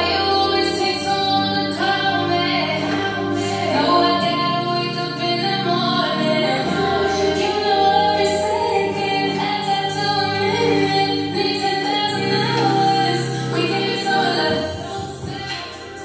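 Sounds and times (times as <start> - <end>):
pop song with woman singing: 0.0 - 16.0.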